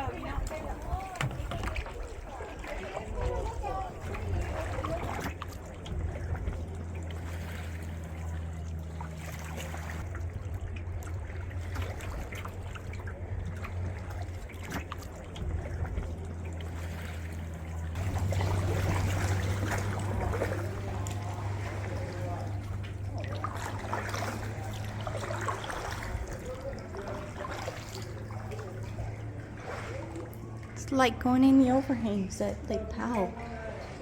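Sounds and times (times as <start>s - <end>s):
steady low hum: 0.0s - 34.0s
water splashing around kayak: 0.0s - 34.0s.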